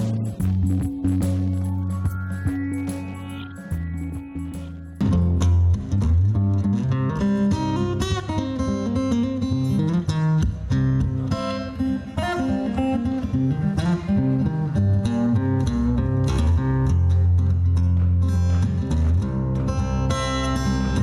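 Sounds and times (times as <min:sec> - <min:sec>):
strummed guitar music: 0:00.0 - 0:21.0.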